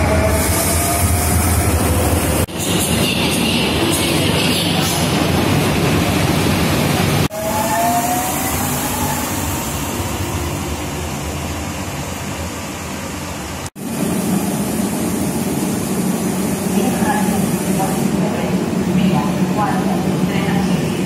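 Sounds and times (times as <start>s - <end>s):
trains rumbling: 0.0s - 21.0s.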